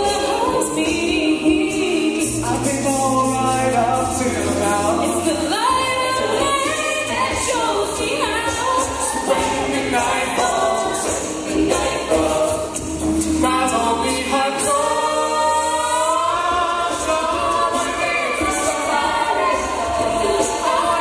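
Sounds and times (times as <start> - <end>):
a cappella group singing: 0.0 - 21.0.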